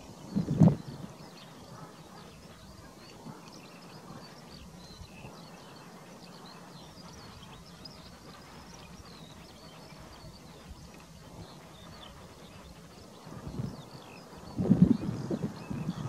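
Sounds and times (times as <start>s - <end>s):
distant skylarks singing: 0.0s - 16.0s
wind rumble on microphone: 0.0s - 16.0s.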